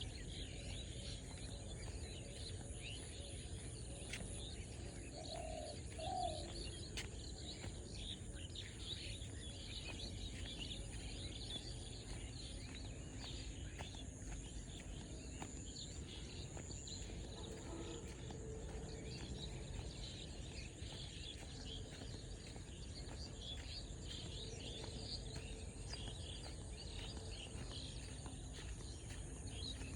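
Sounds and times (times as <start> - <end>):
low rumble of breeze: 0.0 - 29.9
small birds chirping: 0.0 - 29.9.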